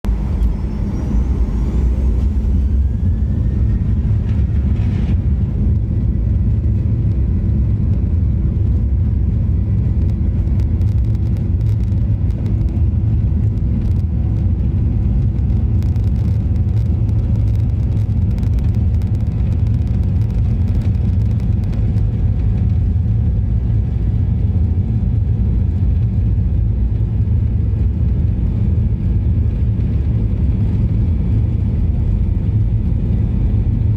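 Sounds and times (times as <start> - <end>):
engine whine: 0.0 - 33.9
jet engines roaring: 0.0 - 33.9.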